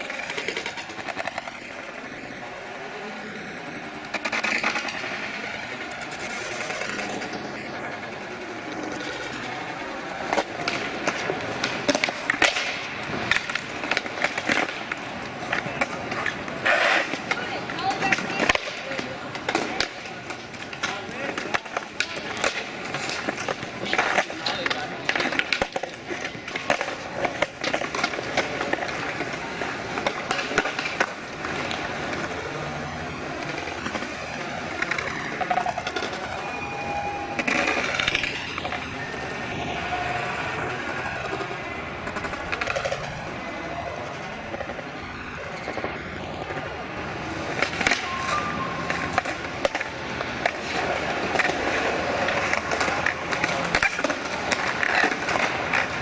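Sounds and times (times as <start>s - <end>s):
skateboard clacks and knocks: 0.0s - 56.0s
skateboard wheels rolling on concrete: 0.0s - 56.0s.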